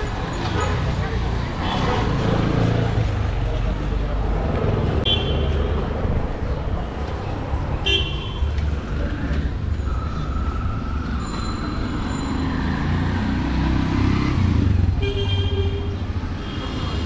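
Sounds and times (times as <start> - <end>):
rumble of vehicle engines: 0.0 - 17.0.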